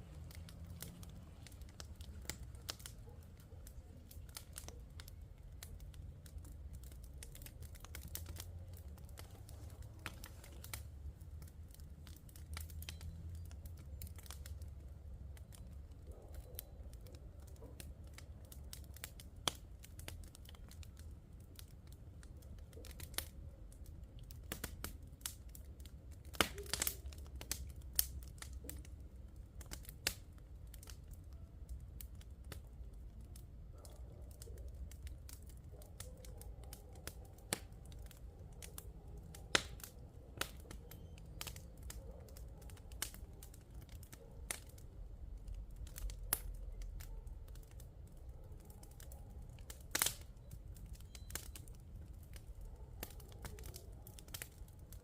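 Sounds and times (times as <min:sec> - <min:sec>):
wood bonfire crackling: 0:00.0 - 0:55.0.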